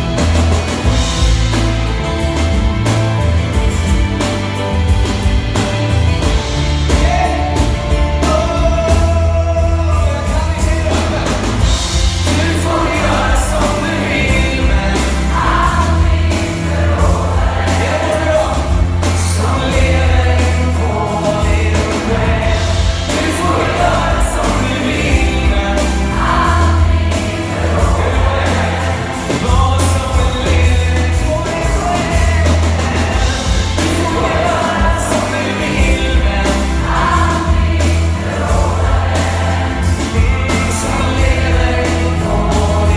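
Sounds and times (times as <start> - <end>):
live band playing: 0.0 - 42.9
strong steady bass line: 0.0 - 42.9
large choir singing: 6.1 - 42.9.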